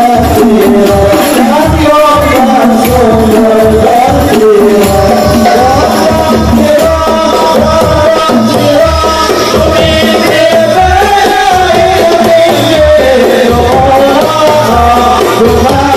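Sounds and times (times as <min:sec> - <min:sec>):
frame drums beating: 0:00.0 - 0:15.9
men singing devotional melody: 0:00.0 - 0:15.9.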